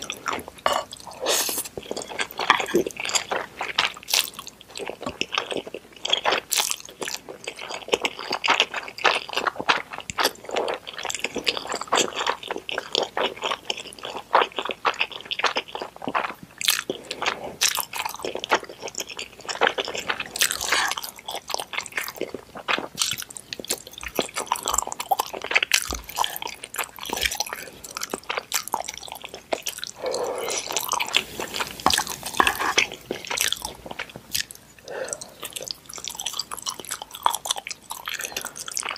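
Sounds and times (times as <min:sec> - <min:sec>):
chewing and slurping noodles: 0:00.0 - 0:38.9.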